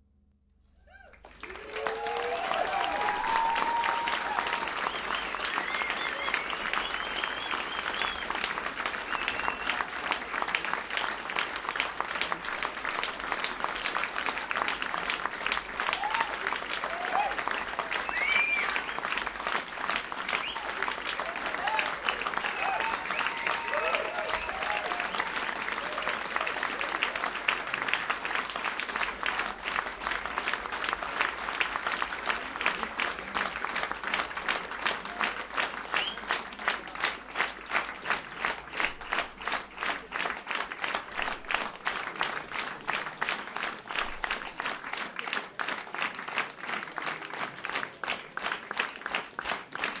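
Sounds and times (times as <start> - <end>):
audience applauding: 0.9 - 50.0
rhythmic unison clapping: 1.1 - 50.0.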